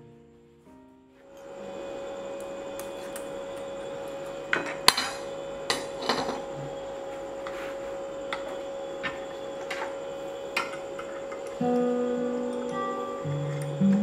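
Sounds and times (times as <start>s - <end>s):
faint steady tone: 1.4s - 14.0s.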